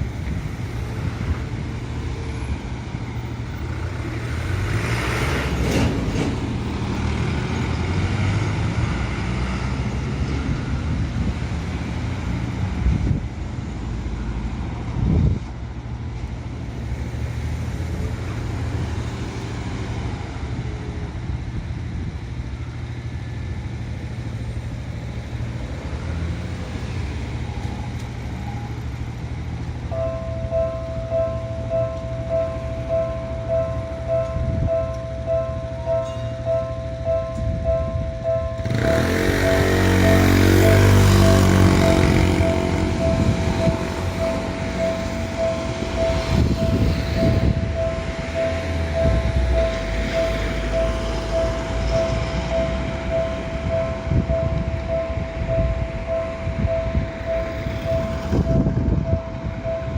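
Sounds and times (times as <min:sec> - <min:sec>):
engine drone of traffic: 0:00.0 - 0:59.9
vehicles passing: 0:00.0 - 0:59.9.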